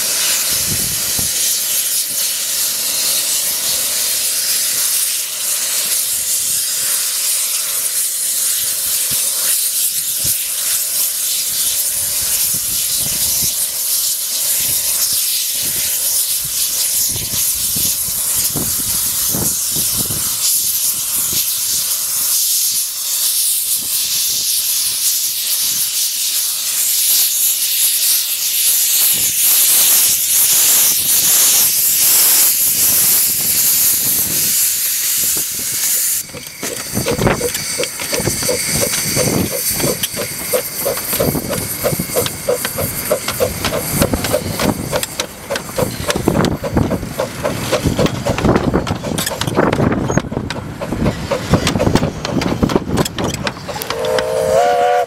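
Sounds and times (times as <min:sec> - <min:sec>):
steam locomotive hissing: 0:00.0 - 0:55.0.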